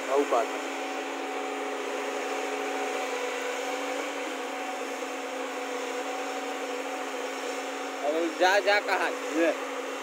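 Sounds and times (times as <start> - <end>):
excavator diesel engine droning: 0.0 - 10.0.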